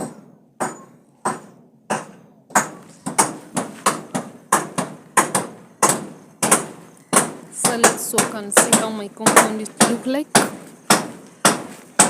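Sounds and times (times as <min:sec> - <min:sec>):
hammer blows: 0:00.0 - 0:12.0.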